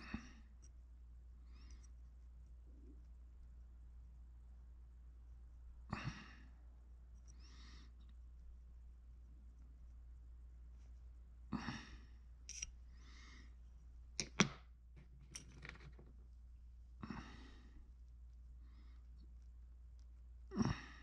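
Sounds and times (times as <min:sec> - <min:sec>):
steady low hum: 0:00.0 - 0:15.4, 0:16.1 - 0:21.0.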